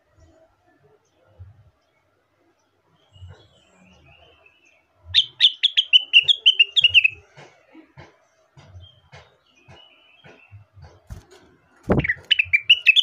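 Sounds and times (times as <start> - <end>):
bird singing: 0.1 - 7.3, 8.7 - 13.0.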